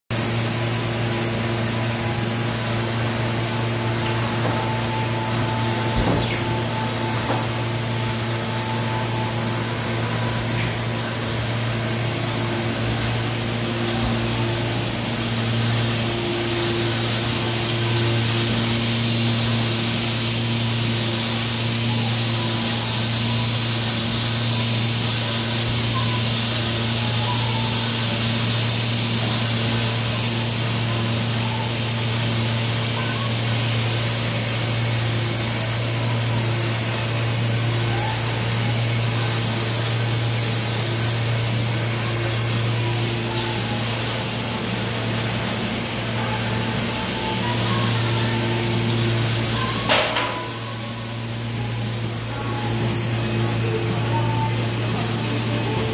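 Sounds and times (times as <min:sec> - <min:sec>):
factory machinery humming: 0:00.1 - 0:55.9.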